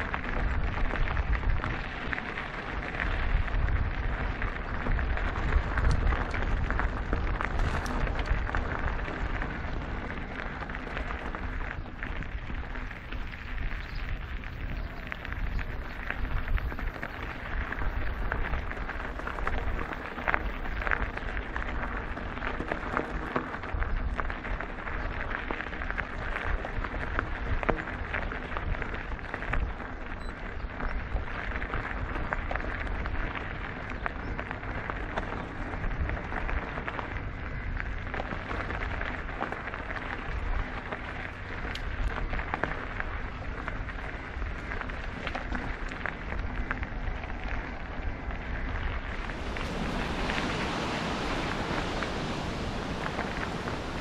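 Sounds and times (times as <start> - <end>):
bike tyres crackling over gravel: 0.0 - 54.0
wind buffeting microphone: 0.0 - 54.0.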